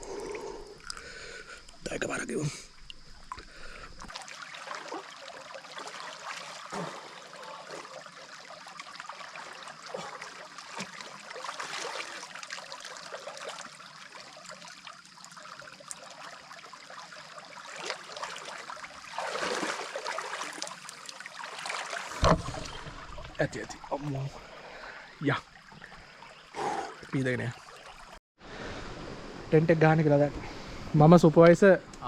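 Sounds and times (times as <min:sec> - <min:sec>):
water splashing: 0:00.0 - 0:28.2
stream water running: 0:00.0 - 0:32.0.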